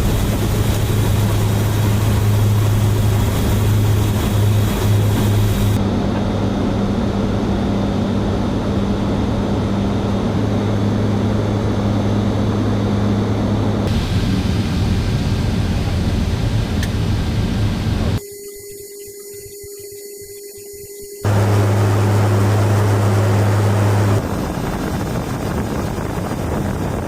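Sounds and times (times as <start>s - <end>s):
turboprop engines droning: 0.0s - 27.0s.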